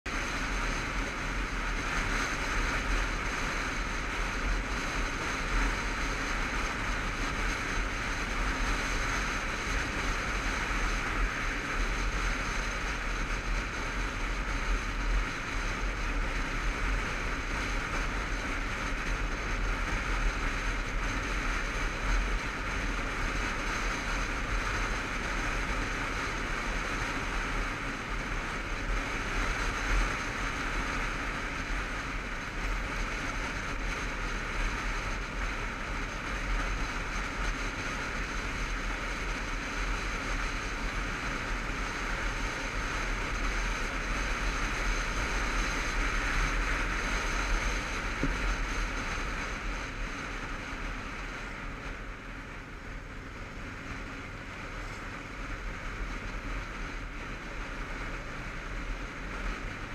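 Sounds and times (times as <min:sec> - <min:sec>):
motorcycle engine rumble: 0:00.0 - 0:59.9
wind rush on microphone: 0:00.1 - 0:59.9.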